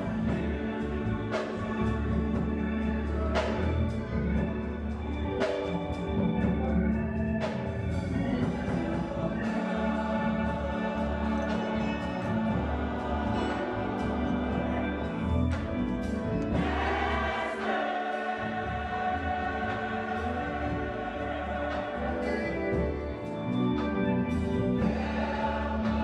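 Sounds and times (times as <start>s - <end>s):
gospel choir singing in harmony: 0.0s - 26.0s
low instrumental bass line: 0.0s - 26.0s.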